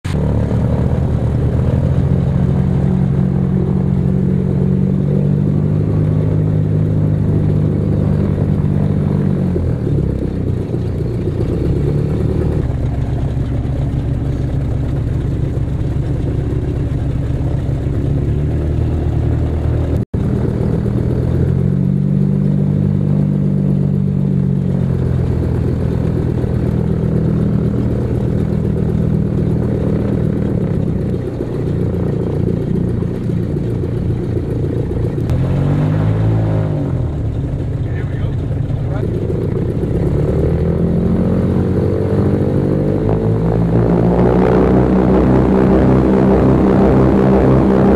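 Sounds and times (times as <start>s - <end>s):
piston aircraft engines from cabin: 0.0s - 35.4s, 36.5s - 47.9s.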